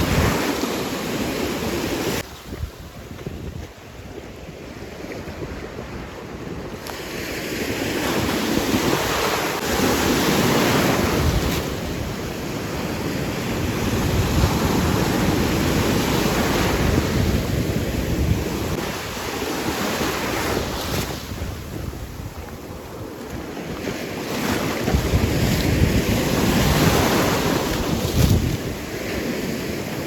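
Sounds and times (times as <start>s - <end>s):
surf washing in: 0.0s - 30.0s
wind buffeting microphone: 0.0s - 30.0s.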